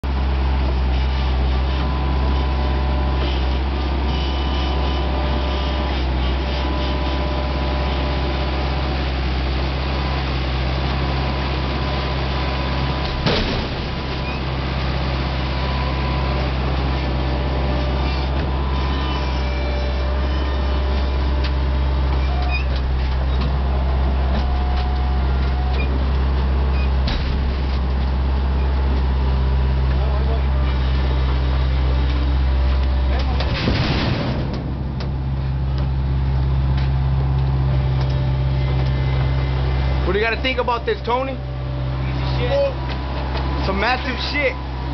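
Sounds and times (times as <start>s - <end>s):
heavy engine humming: 0.0s - 44.9s.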